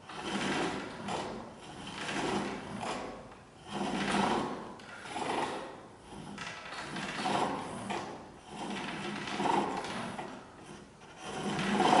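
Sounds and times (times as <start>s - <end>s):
chisel scraping wood on lathe: 0.0s - 12.0s.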